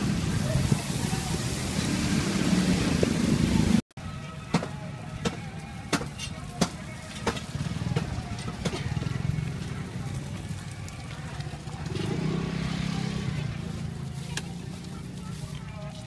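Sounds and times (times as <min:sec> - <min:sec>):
street traffic hum: 0:00.0 - 0:16.0.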